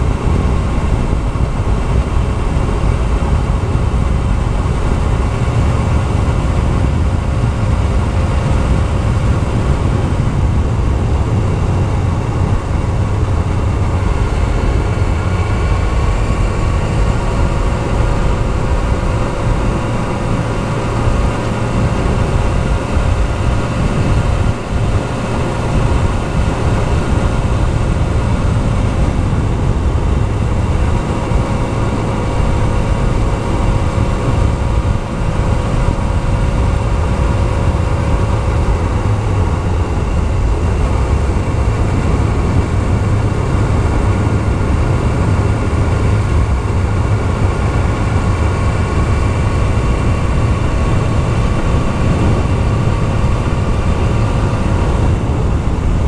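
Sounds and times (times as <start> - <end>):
motorcycle engine cruising: 0.0 - 56.0
wind rumble on microphone: 0.0 - 56.0.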